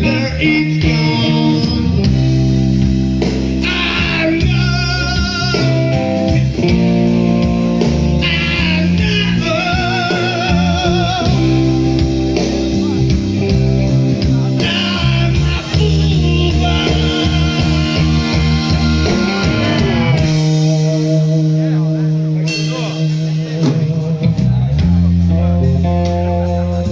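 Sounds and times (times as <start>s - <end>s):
bass line: 0.0s - 26.9s
electric guitar: 0.0s - 26.9s
rock band playing: 0.0s - 26.9s.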